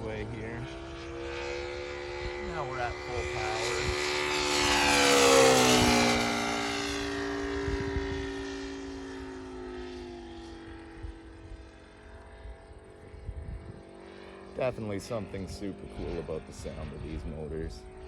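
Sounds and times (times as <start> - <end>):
model airplane engine flying past: 0.0 - 18.0.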